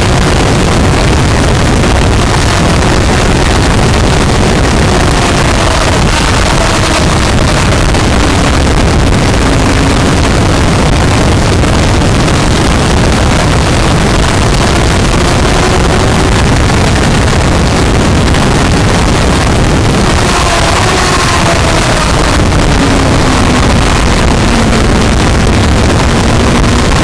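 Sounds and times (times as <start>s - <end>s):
motorcycle engine: 0.0s - 27.0s
wind rush on microphone: 0.0s - 27.0s.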